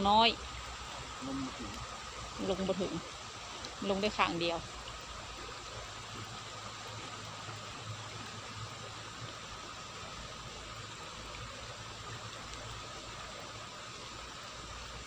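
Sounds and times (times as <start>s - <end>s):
rain falling on water: 0.0s - 15.0s
running water: 0.0s - 15.0s.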